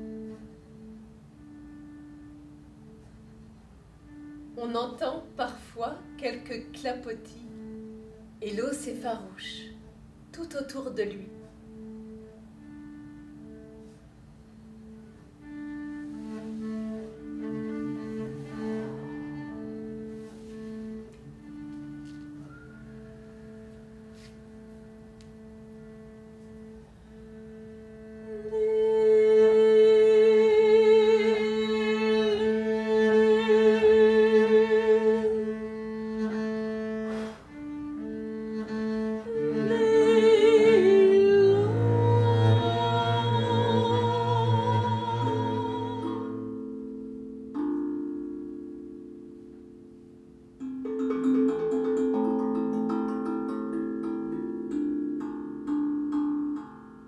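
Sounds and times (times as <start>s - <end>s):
bowed double bass: 0.0s - 48.0s.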